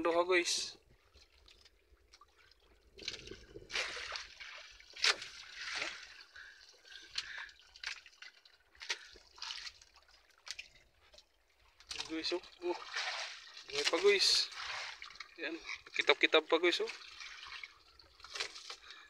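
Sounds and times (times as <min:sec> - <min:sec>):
water dripping and splashing: 0:00.8 - 0:19.0
wet net rustling: 0:01.1 - 0:15.8, 0:16.9 - 0:19.0.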